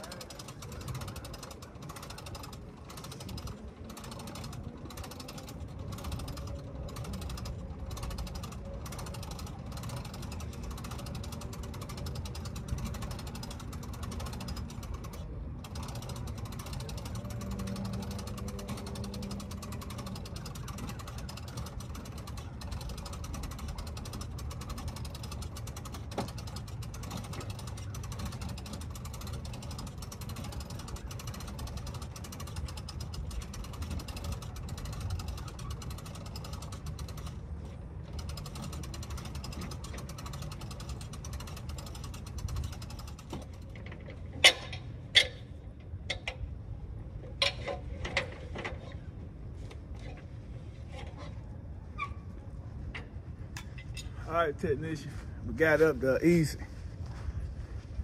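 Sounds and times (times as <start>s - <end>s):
winch ratcheting clicks: 0.0s - 52.2s
low hum: 0.0s - 58.0s.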